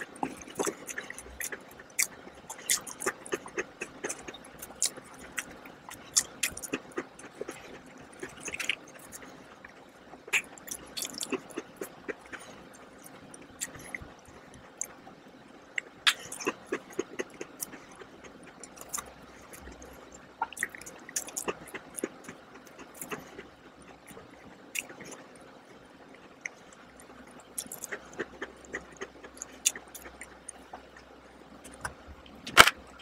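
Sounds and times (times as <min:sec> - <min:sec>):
person chewing crunchy cookie: 0:00.0 - 0:15.0, 0:15.7 - 0:33.0.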